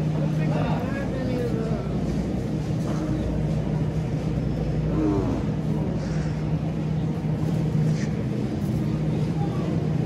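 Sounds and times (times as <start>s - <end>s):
rumbling background noise: 0.0s - 10.0s.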